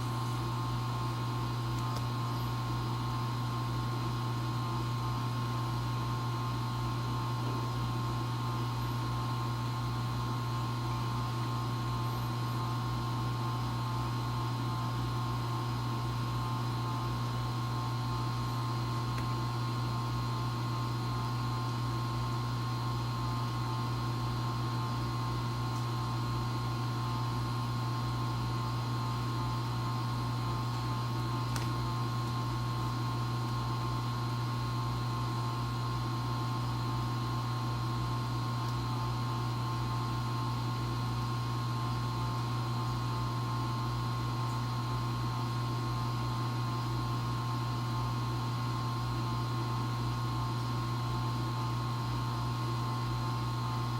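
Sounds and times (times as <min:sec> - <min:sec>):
aquarium pump humming with whine: 0:00.0 - 0:53.9.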